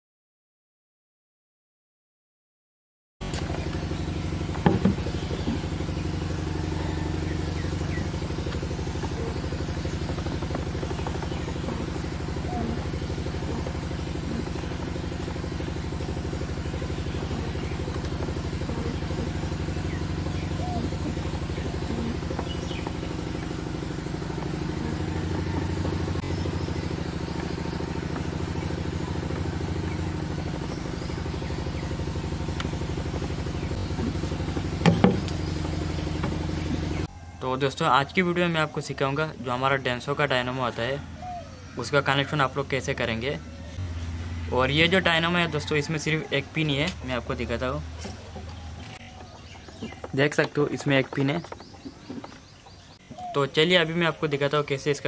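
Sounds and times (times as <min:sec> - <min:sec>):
engine idling: 0:03.2 - 0:55.0.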